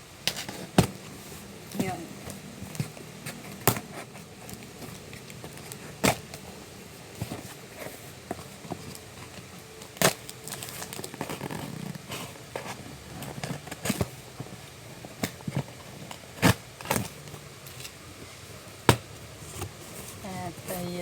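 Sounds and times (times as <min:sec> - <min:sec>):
package rustling and scraping: 0:02.6 - 0:18.1, 0:19.3 - 0:20.8.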